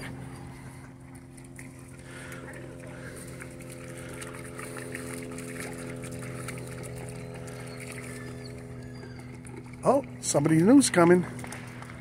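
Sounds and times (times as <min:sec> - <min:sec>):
dogs splashing in water: 0:00.0 - 0:12.0
low mechanical hum: 0:00.0 - 0:12.0.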